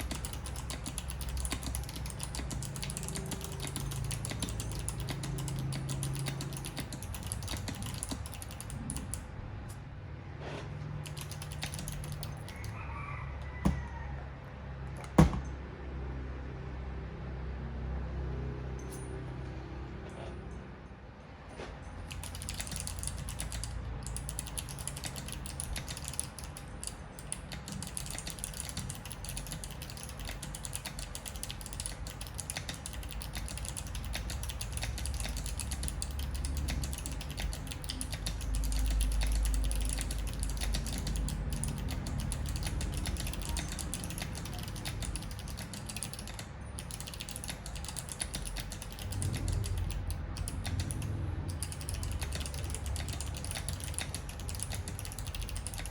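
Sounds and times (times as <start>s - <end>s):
mechanical keyboard typing: 0.0s - 9.8s, 10.9s - 13.8s, 22.0s - 55.9s.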